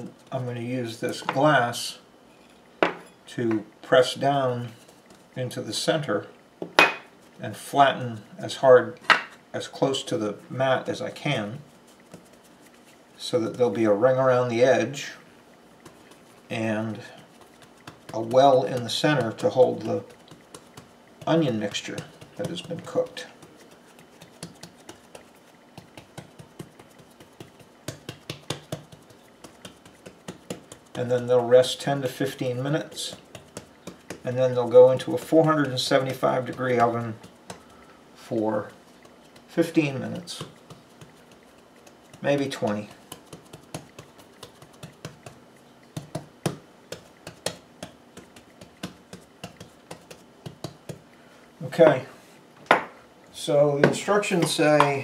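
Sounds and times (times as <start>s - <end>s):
fingertips tapping dough: 2.8s - 5.9s, 8.5s - 52.0s.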